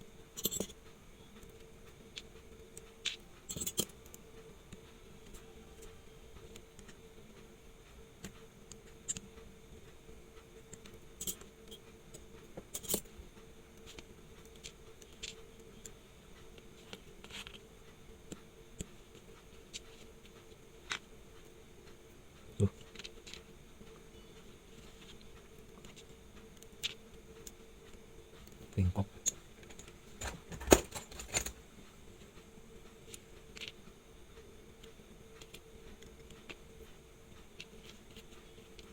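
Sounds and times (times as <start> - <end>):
steady low hum: 0.0 - 38.9
watch tools ticking and tapping: 0.3 - 31.6.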